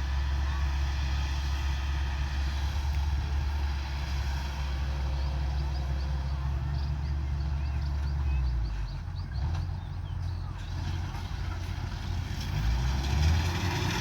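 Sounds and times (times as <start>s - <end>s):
combine harvester engine drone: 0.0s - 12.6s.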